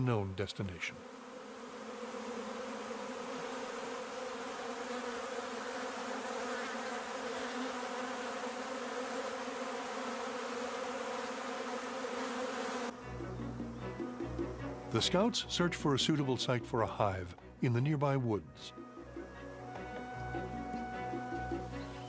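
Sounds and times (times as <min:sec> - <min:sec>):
swarm of bees buzzing: 0:00.0 - 0:15.6, 0:18.9 - 0:22.0.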